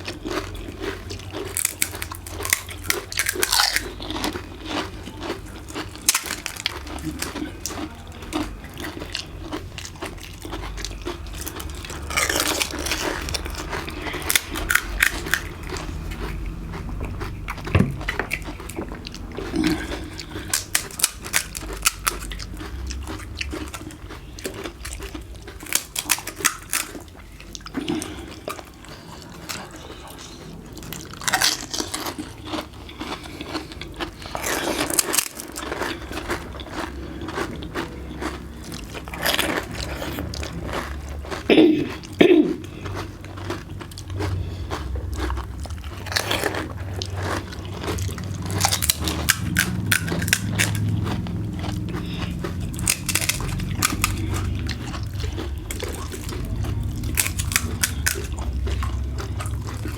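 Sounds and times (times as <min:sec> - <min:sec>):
crisp shells crunching when chewed: 0:00.0 - 0:59.9.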